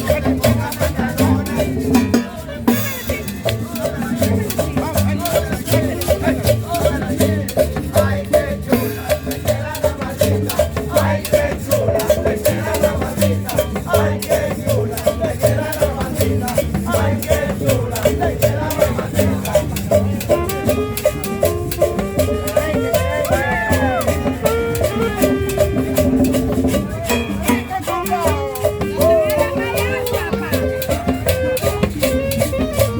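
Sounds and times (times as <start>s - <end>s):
upbeat salsa music: 0.0s - 32.9s.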